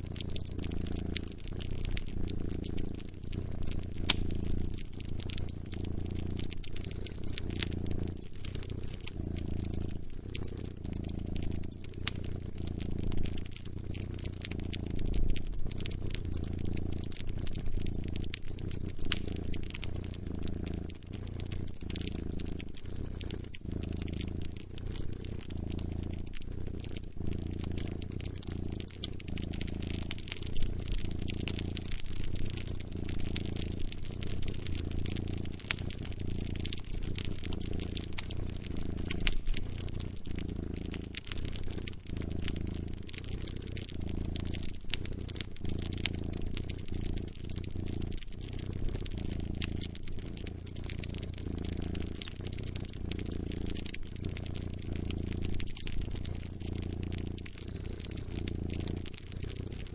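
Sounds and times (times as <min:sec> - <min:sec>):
campfire crackling: 0:00.0 - 0:59.9
cat purring: 0:00.0 - 0:59.9.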